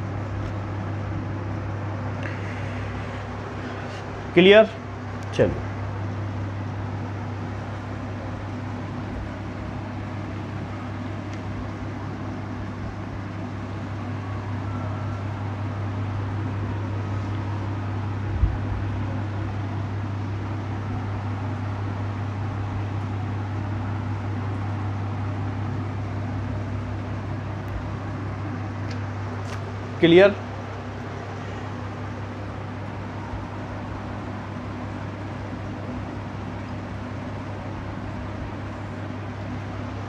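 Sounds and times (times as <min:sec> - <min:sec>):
fan-like rushing noise: 0:00.0 - 0:40.0
low hum: 0:00.0 - 0:40.0.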